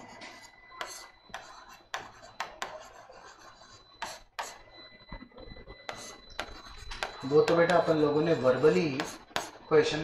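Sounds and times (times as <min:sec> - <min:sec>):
marker scratching on board: 0:00.0 - 0:04.7, 0:05.9 - 0:09.6.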